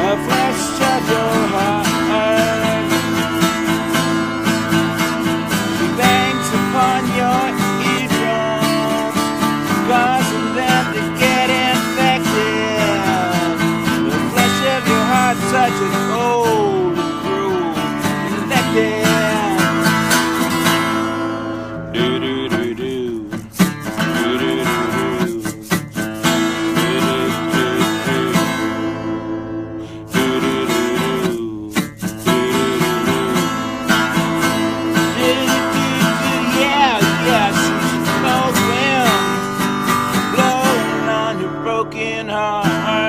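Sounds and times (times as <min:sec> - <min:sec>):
strummed acoustic guitar: 0:00.0 - 0:43.0.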